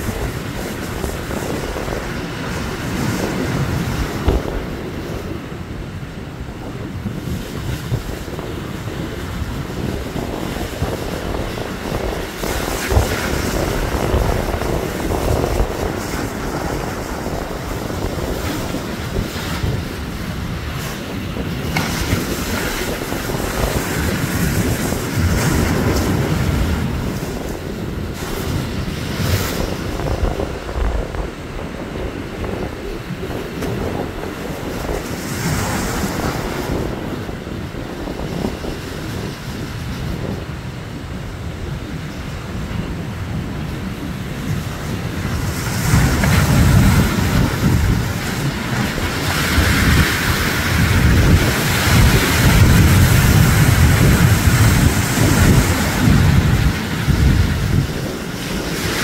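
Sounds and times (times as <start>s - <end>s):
ocean surf breaking on rocks: 0.0s - 59.0s
wind rumbling on microphone: 0.0s - 59.0s.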